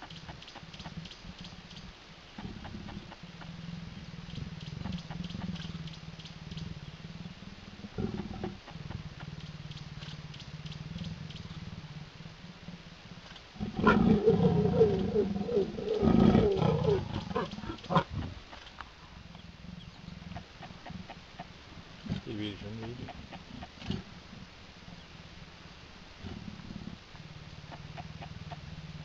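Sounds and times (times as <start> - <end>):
leopards growling and snarling: 0.0 - 29.0.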